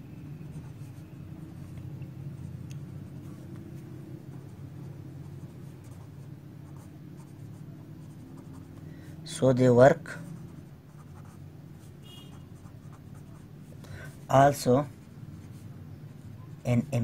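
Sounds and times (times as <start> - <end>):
marker scratching on paper: 0.4 - 17.0.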